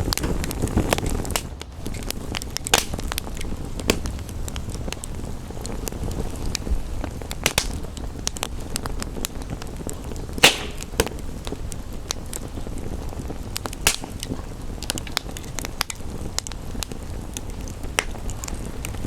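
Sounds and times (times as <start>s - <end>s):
rain hissing: 0.0s - 19.0s
wood fire crackling: 0.0s - 19.0s.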